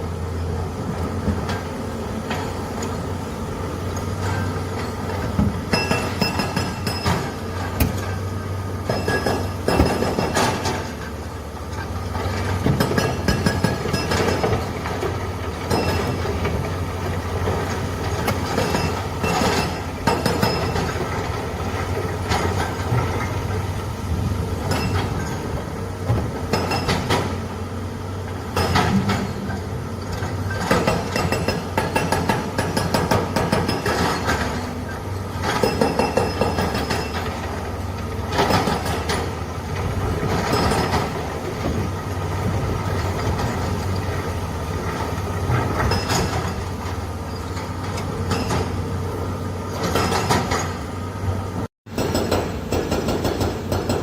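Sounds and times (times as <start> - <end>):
heavy machinery engine drone: 0.0 - 54.0
metallic clanks and knocks: 3.9 - 23.6, 24.6 - 27.4, 28.3 - 48.9, 49.6 - 51.0.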